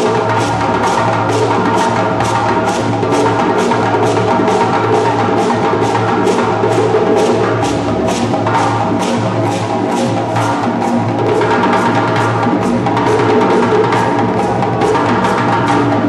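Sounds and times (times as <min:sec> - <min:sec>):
drum ensemble playing: 0:00.0 - 0:16.0
sharp drum slap strokes: 0:00.0 - 0:16.0.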